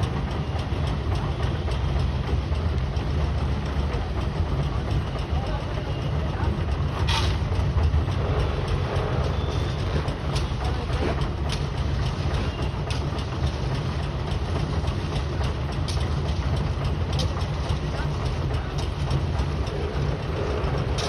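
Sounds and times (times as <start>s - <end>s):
faint clicks and knocks: 0.0s - 21.0s
pile-driving rig engine drone: 0.0s - 21.0s.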